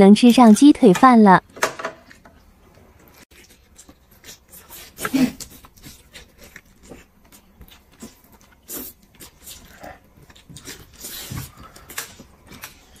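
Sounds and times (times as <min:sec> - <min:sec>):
person chewing: 0:02.0 - 0:13.0.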